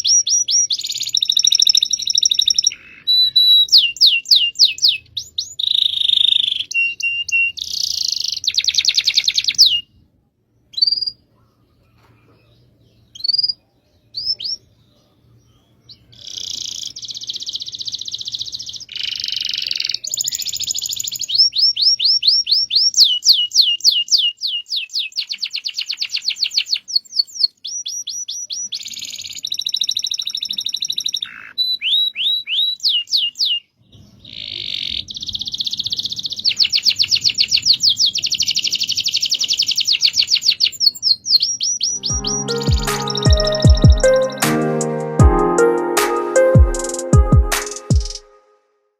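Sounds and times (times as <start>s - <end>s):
canary singing trills: 0.0s - 10.0s, 10.6s - 44.5s.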